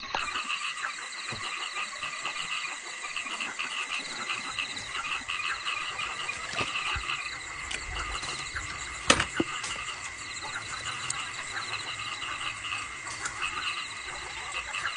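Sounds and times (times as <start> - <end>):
frogs calling: 0.0 - 14.9
insects trilling: 0.0 - 14.9.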